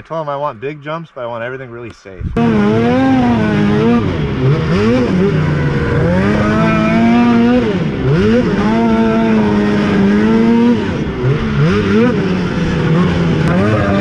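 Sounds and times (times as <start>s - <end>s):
snowmobile engine revving: 2.4s - 14.0s.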